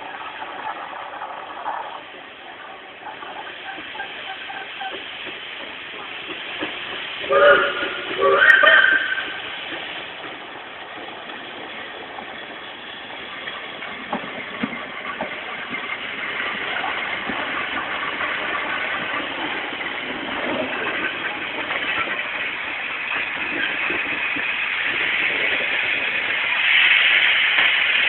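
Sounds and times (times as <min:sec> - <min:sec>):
steam train running: 0:00.0 - 0:28.0.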